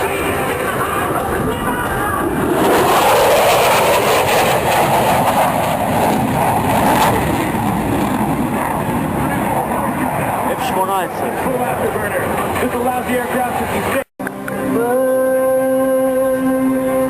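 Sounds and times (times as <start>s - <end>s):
jet aircraft passing overhead: 0.0s - 14.8s.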